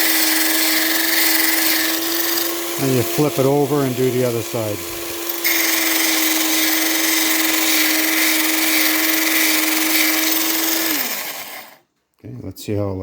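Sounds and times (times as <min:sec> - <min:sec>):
drill bit grinding: 0:00.0 - 0:11.8
drill bit sharpener motor hum: 0:00.0 - 0:11.8.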